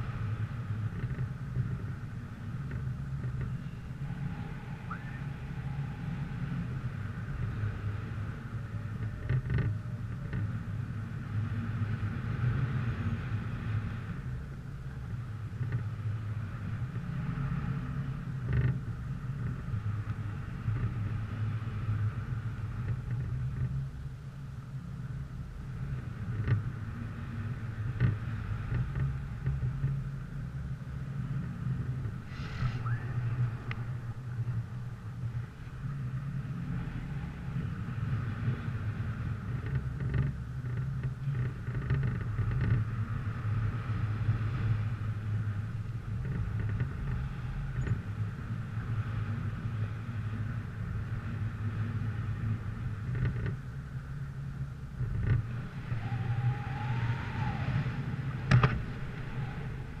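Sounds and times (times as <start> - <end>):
vehicle engine rumbling: 0.0 - 60.0.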